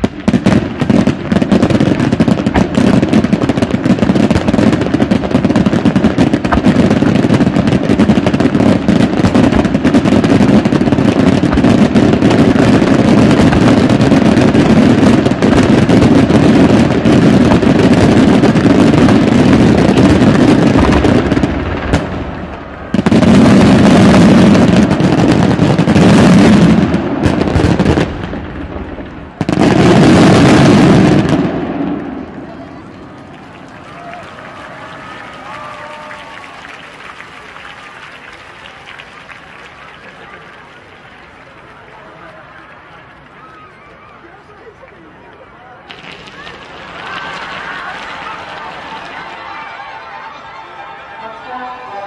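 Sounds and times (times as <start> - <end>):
fireworks bursting and crackling: 0.0 - 52.0.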